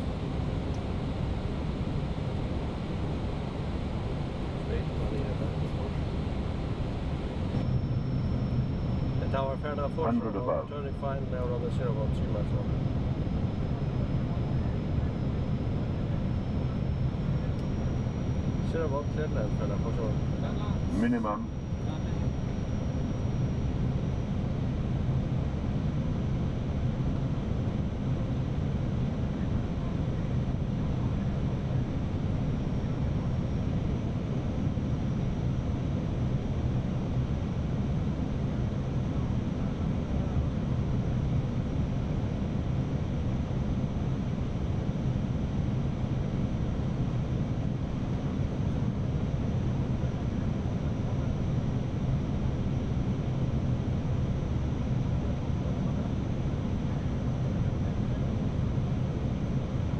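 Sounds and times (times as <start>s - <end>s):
faint high whine: 0.0s - 59.9s
low rumble of airflow and engines: 0.0s - 59.9s.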